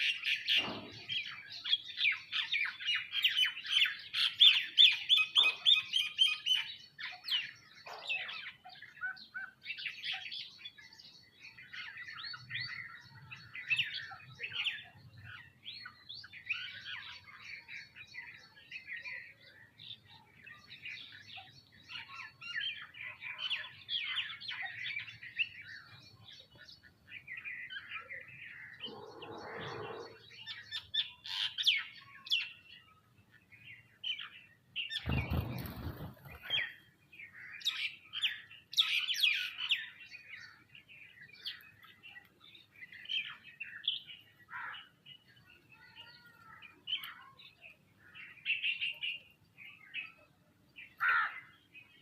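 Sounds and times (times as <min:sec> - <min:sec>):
flock of birds chirping: 0:00.0 - 0:52.0.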